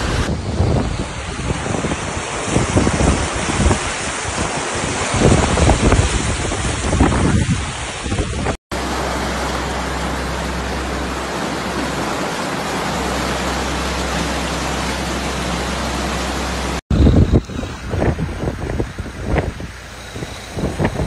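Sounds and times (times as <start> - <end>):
wind buffeting microphone: 0.0 - 9.2, 10.0 - 21.0
storm water rushing: 0.0 - 21.0.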